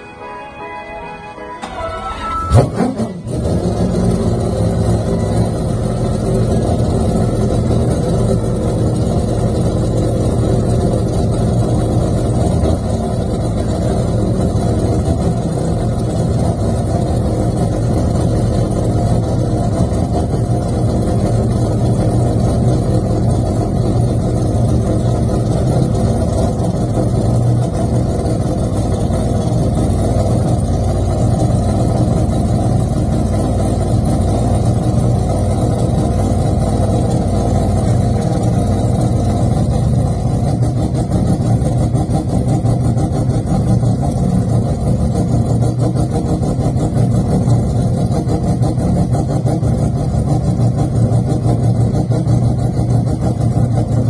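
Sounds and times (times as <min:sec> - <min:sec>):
rotary racing engine idling: 0:02.5 - 0:54.0.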